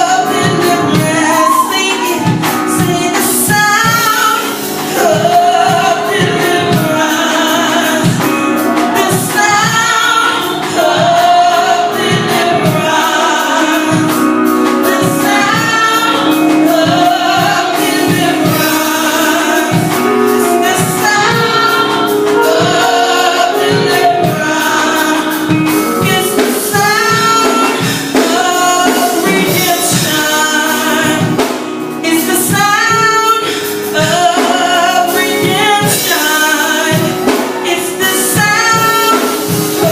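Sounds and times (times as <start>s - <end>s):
choir singing: 0.0s - 33.2s, 33.9s - 39.9s
band with steady drum beat: 0.0s - 39.9s.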